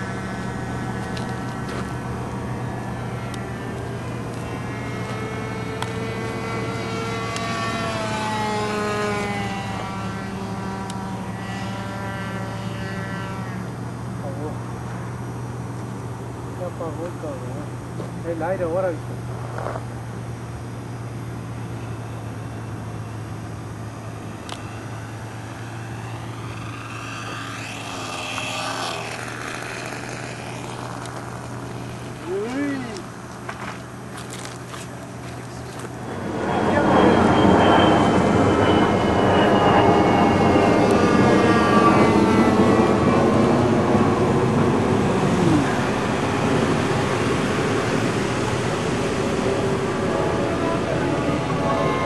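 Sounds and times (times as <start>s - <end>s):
model airplane engine whining: 0.0s - 52.0s.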